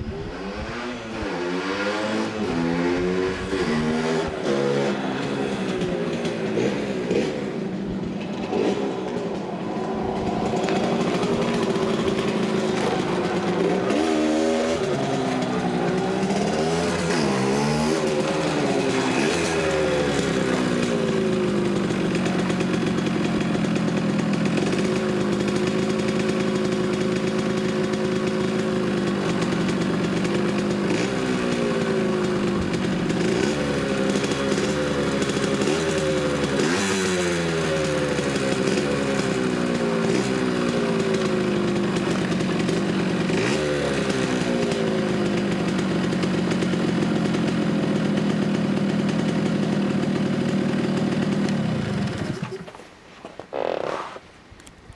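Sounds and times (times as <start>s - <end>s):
two-stroke motorcycle engine revving: 0.0s - 52.8s.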